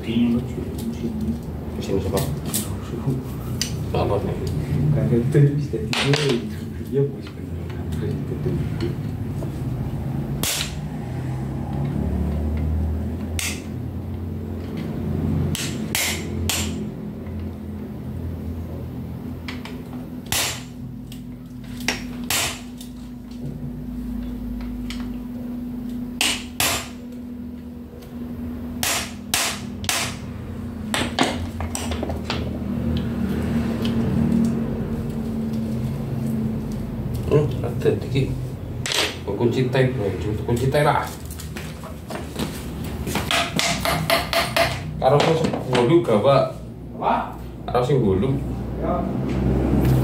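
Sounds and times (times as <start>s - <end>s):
low steady hum: 0.0s - 49.2s.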